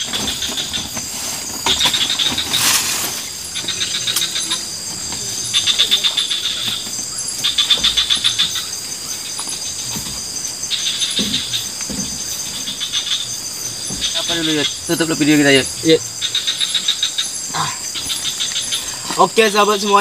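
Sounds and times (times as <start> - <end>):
high-pitched insect buzz: 0.0 - 20.0
insect rapid pulsed trilling: 0.0 - 20.0.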